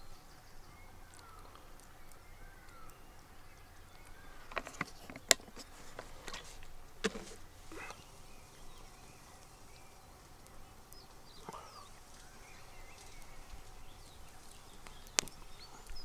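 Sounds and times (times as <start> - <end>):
faint bird calls: 0.0 - 6.4, 7.6 - 16.0.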